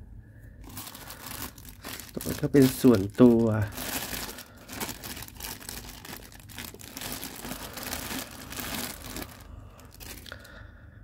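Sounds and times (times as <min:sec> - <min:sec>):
plastic bag crinkling: 0:00.6 - 0:10.5.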